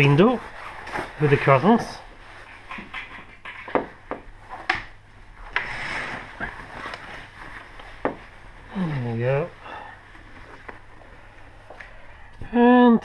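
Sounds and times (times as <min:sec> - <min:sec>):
curtain fabric rustling: 0:00.0 - 0:12.1.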